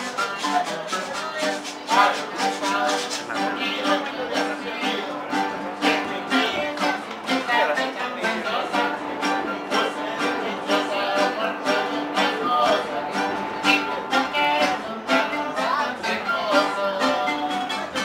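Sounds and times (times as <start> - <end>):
band playing acoustic guitars: 0.0 - 18.0.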